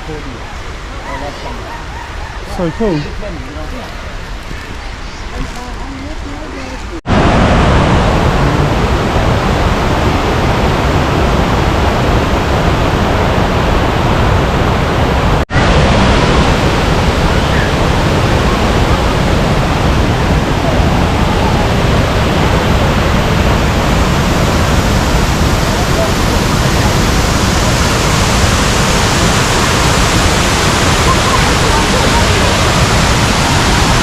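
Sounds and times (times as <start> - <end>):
waterfall rushing: 6.6 - 34.0.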